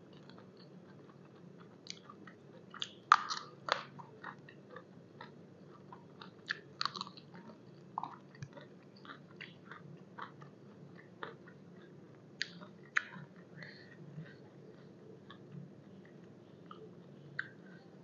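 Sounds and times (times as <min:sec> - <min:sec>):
person chewing crunchy vegetables: 0:00.0 - 0:17.9.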